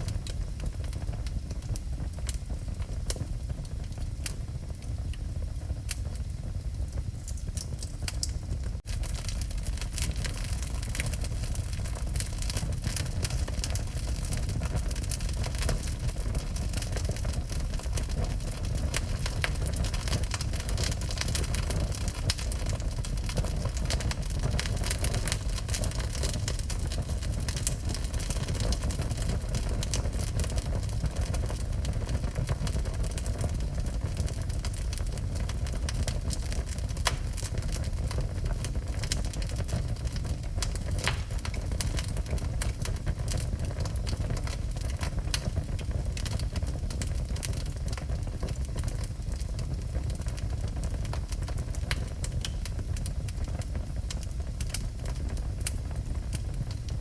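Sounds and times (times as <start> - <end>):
burning wood crackling and popping: 0.0 - 57.0
low rumble of flames: 0.0 - 57.0.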